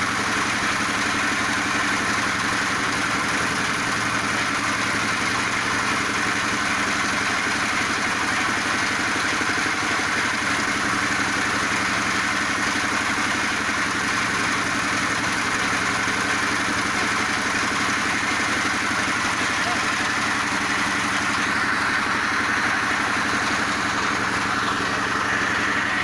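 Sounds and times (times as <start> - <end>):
pellet machine droning: 0.0 - 26.0.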